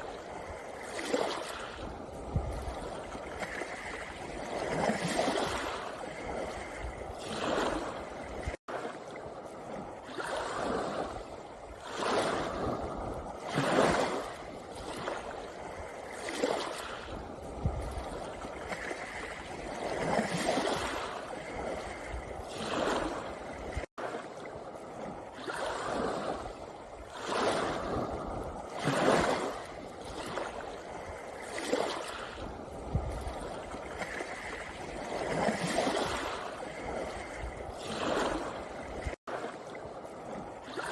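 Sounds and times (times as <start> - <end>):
waves washing over pebble beach: 0.0 - 40.9.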